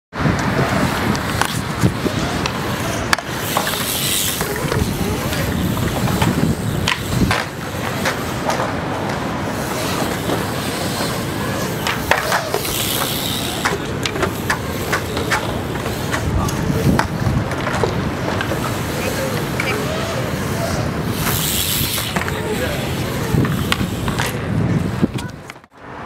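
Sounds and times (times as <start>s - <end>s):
wheels rolling on concrete: 0.1s - 26.0s.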